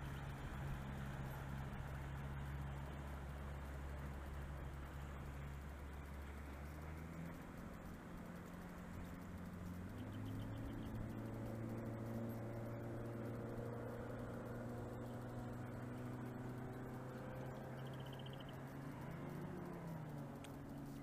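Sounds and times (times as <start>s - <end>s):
distant motorboat engine: 0.0s - 21.0s.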